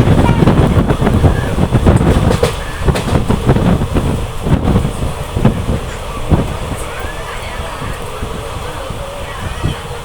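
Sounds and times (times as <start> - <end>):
train rumbling: 0.0 - 10.0
wheels clacking over rails: 0.0 - 10.0.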